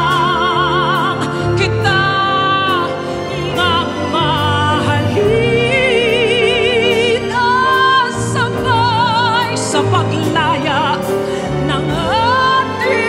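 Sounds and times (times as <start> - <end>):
orchestra accompaniment: 0.0 - 13.0
woman singing: 0.0 - 13.0.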